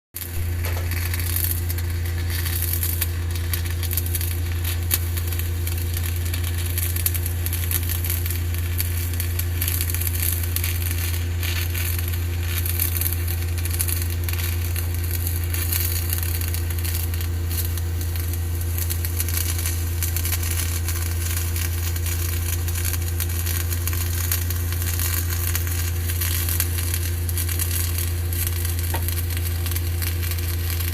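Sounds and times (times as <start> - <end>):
welding arc crackling: 0.2 - 30.9
welding machine hum: 0.2 - 30.9.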